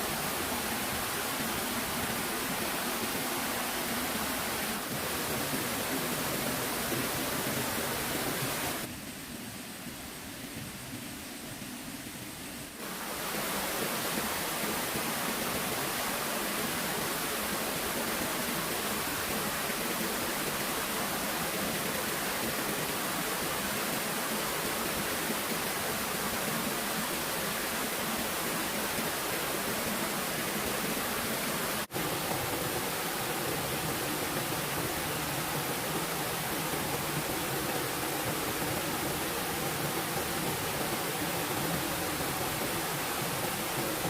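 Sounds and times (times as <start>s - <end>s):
stream water flowing: 0.0s - 44.0s.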